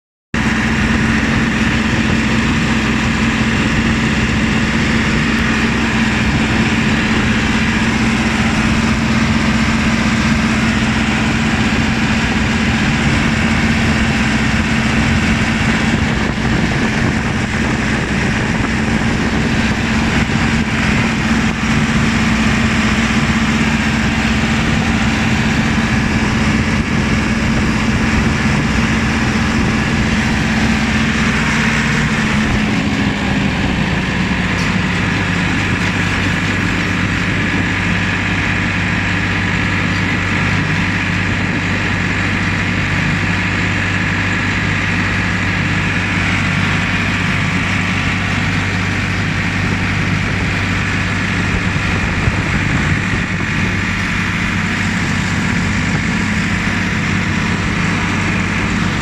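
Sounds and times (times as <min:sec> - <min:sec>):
tractor diesel engine running: 0:00.4 - 0:59.0.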